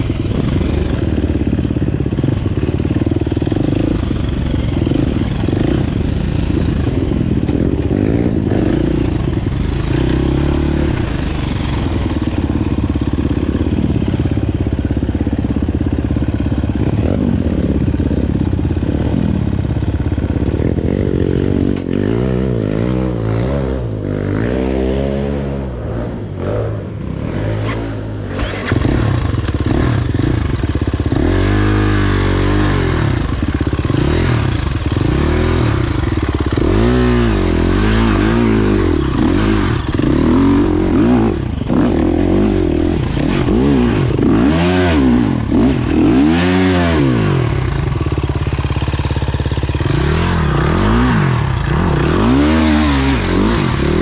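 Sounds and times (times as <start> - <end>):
dirt bike engine revving: 0.0 - 19.5, 20.4 - 54.0.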